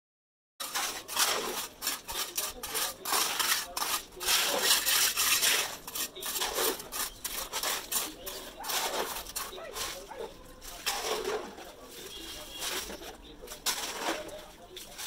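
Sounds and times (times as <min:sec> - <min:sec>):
wet concrete scraping: 0:00.6 - 0:15.0.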